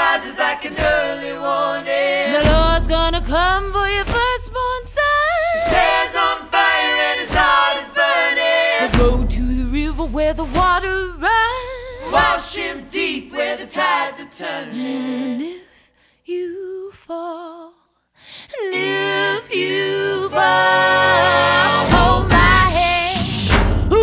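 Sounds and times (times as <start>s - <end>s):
voices singing unaccompanied: 0.0s - 15.7s, 18.5s - 24.0s.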